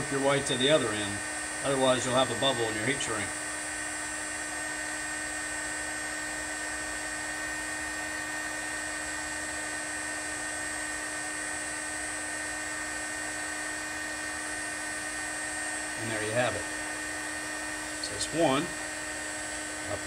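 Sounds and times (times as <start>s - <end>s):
heat gun fan whining: 0.0s - 20.0s.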